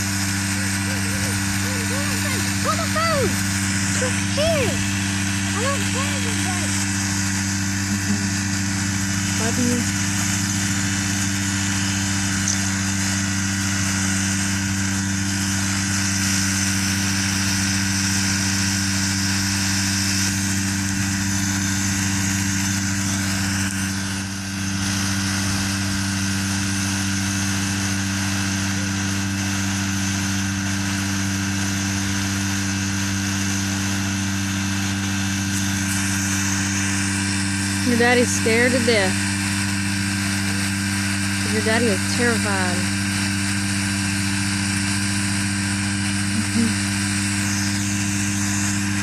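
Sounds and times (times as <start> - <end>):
propeller engine idling: 0.0 - 49.0.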